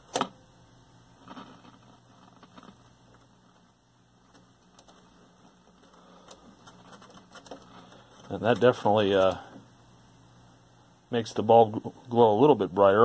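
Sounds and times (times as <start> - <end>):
faint low mains hum: 0.0 - 13.0.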